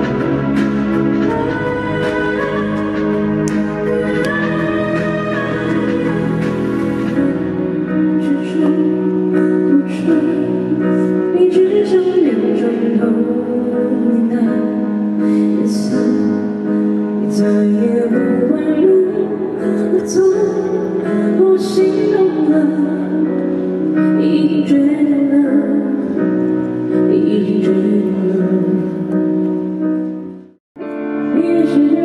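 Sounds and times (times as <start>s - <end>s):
woman singing: 0.0s - 29.2s, 31.1s - 32.0s.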